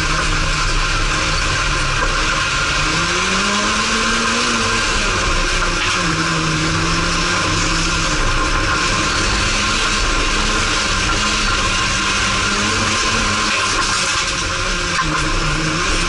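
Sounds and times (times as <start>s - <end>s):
loud rushing noise: 0.0s - 16.0s
race car engine revving: 0.0s - 16.0s.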